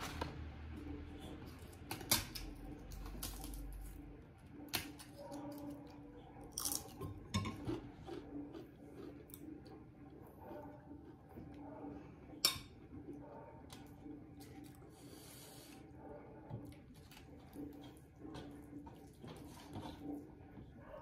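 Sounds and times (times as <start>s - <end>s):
chewing: 0.7s - 15.9s, 16.5s - 20.8s.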